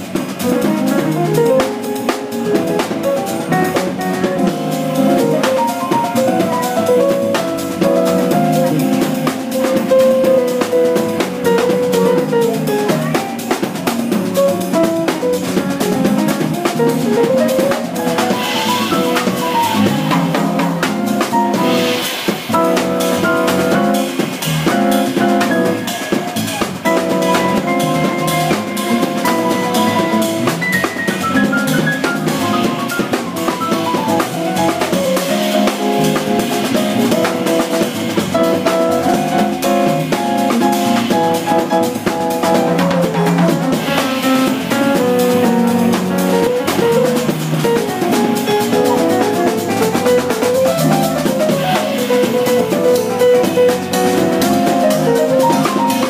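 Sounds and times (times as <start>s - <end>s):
drum kit with rimshots: 0.0s - 56.0s
electric keyboard: 0.0s - 56.0s.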